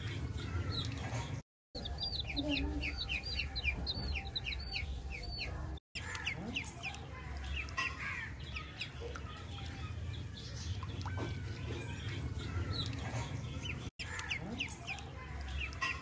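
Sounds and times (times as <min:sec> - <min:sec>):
ducklings peeping: 0:01.8 - 0:16.0.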